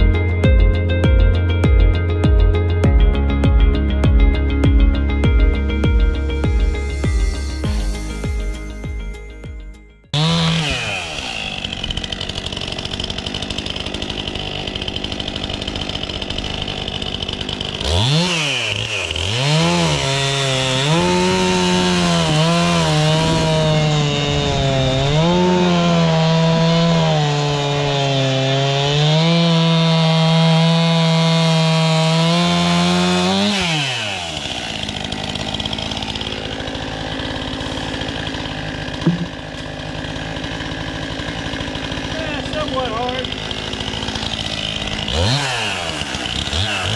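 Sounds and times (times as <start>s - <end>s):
chainsaw cutting log: 0.0s - 9.4s, 10.1s - 46.9s.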